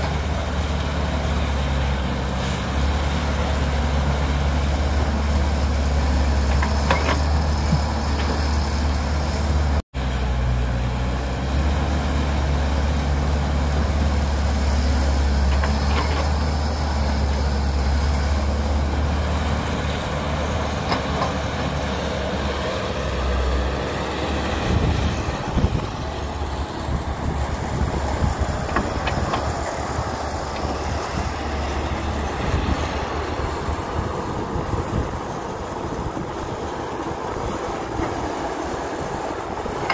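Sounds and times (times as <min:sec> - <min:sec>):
excavator diesel engine: 0:00.0 - 0:39.9
truck engine running: 0:00.0 - 0:39.9.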